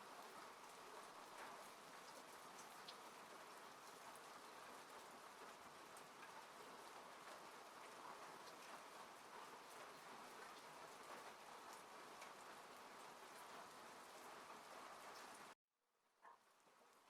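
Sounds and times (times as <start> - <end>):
rain on a car roof: 0.0 - 15.6.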